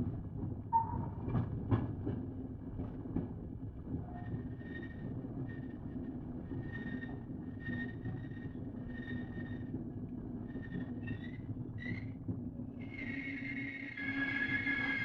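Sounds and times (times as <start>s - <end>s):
train rumbling on rails: 0.1s - 15.0s.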